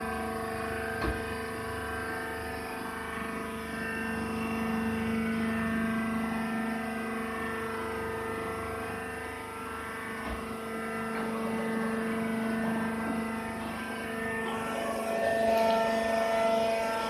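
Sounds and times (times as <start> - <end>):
baler machine hum: 0.0 - 17.0.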